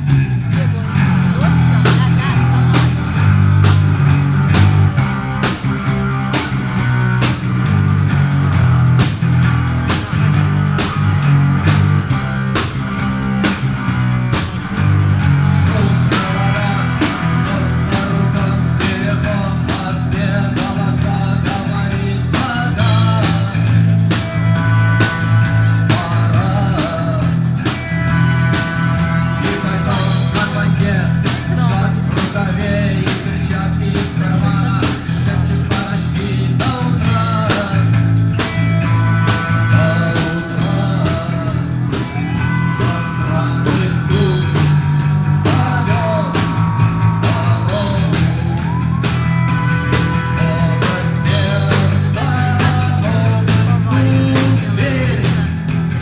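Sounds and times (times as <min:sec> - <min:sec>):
bass line: 0:00.0 - 0:56.0
drum kit beat: 0:00.0 - 0:56.0
electric guitar: 0:00.0 - 0:56.0.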